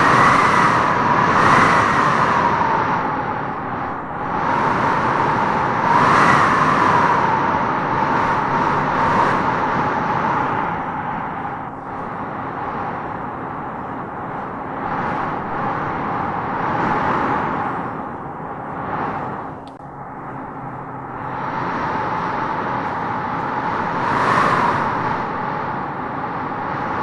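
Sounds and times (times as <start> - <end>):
wind gusts howling: 0.0 - 27.0.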